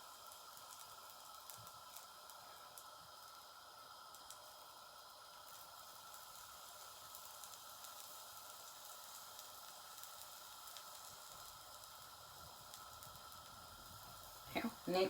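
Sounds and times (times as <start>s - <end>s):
light crackles: 0.0s - 15.0s
pancake batter sizzling in a pan: 0.0s - 15.0s.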